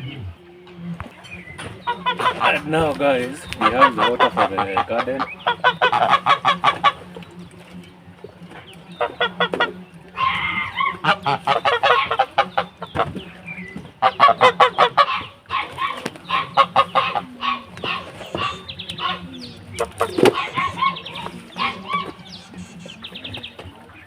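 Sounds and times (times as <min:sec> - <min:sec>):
fowl honking cackles: 0:00.0 - 0:23.6.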